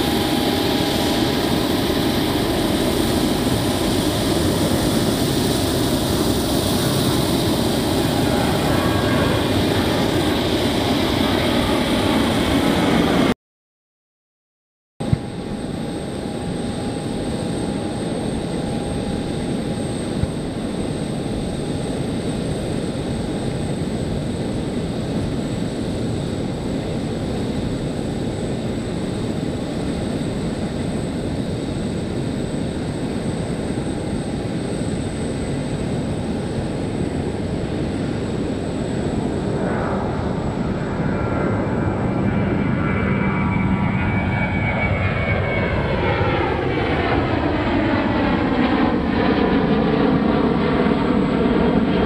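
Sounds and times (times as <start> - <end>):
jet engine roar with whine: 0.0 - 13.4, 15.0 - 52.0.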